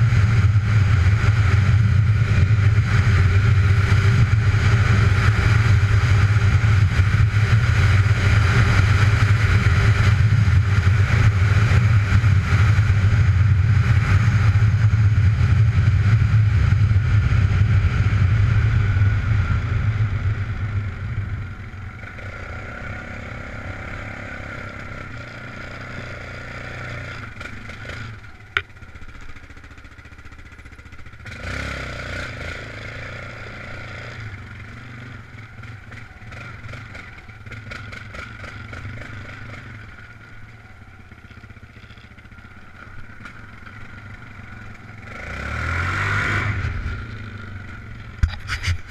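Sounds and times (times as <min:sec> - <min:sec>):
off-road vehicle engine running: 0:00.0 - 0:48.9.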